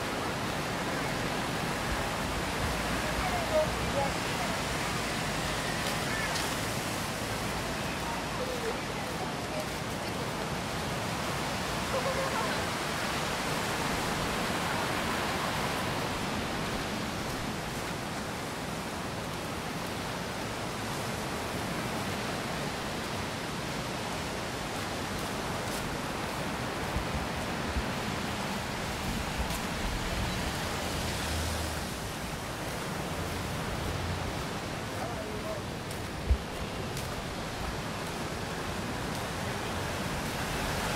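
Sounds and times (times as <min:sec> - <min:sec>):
steady outdoor rushing noise: 0:00.0 - 0:40.9.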